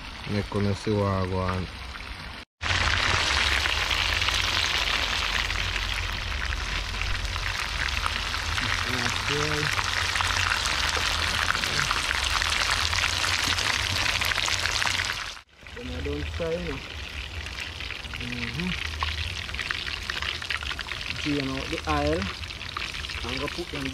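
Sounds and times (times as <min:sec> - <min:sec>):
fish sizzling in hot oil: 0:02.6 - 0:23.9.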